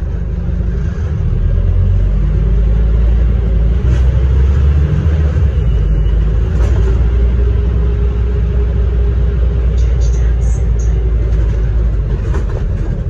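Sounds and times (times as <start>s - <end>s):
diesel bus idling: 0.0s - 13.0s.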